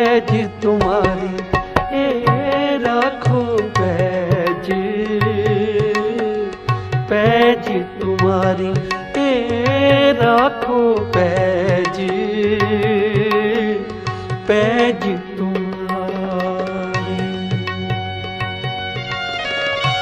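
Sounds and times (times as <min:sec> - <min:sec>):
harmonium melody and chords: 0:00.0 - 0:20.0
tabla pattern: 0:00.0 - 0:20.0.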